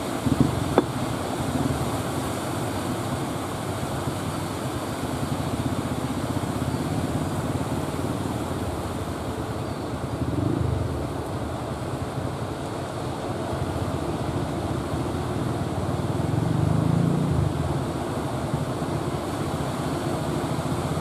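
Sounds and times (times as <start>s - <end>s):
surf breaking and washing: 0.0s - 21.0s.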